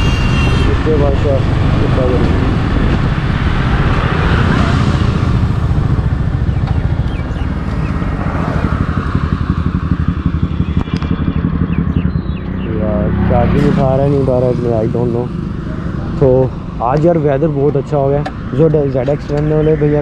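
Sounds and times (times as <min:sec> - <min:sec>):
motorcycle engine pulsing: 0:00.0 - 0:20.0
wind and road noise: 0:00.0 - 0:20.0.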